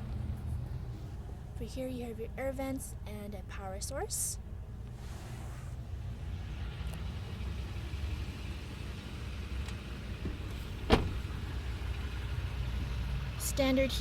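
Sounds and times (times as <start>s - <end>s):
engine idling low rumble: 0.0s - 14.0s.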